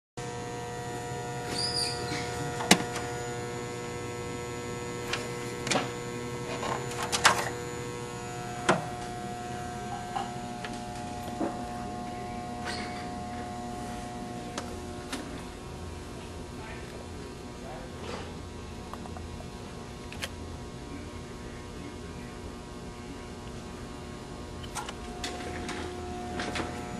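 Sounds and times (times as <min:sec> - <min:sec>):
electrical equipment hum: 0:00.2 - 0:26.9.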